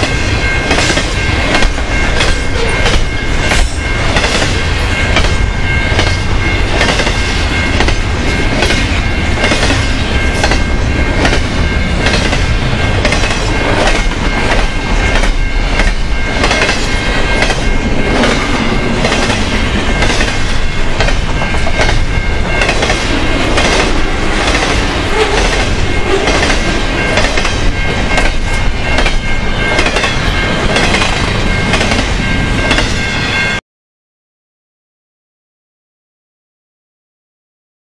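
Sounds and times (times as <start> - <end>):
freight train rumble: 0.0 - 33.6
high-pitched ring: 0.0 - 33.6.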